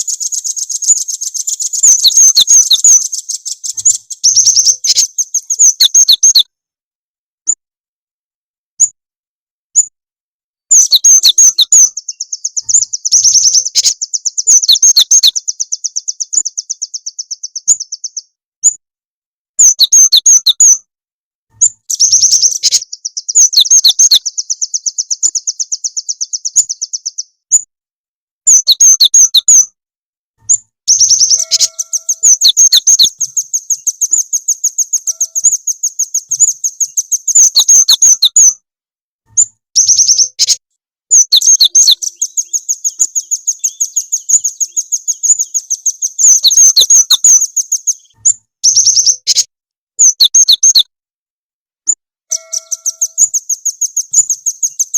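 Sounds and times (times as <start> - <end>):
songbird chirps and trills: 0.0 - 6.5, 10.7 - 18.8, 19.6 - 20.9, 21.5 - 27.7, 28.5 - 29.8, 30.4 - 38.6, 39.3 - 50.9, 51.9 - 54.9.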